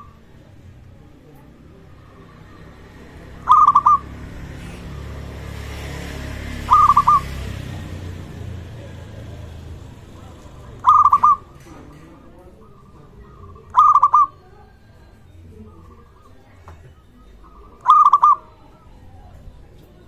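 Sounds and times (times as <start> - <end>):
dove cooing: 0.0 - 19.8.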